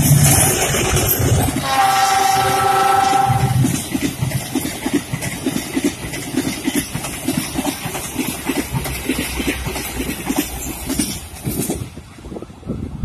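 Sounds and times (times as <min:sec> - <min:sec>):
train wheels clattering: 0:00.0 - 0:12.0
train rumble and hiss: 0:00.0 - 0:13.0.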